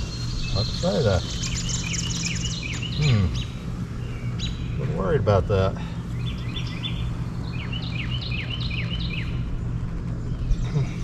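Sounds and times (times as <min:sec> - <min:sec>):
bird chirping: 0:00.0 - 0:11.0
low hum: 0:00.0 - 0:11.0.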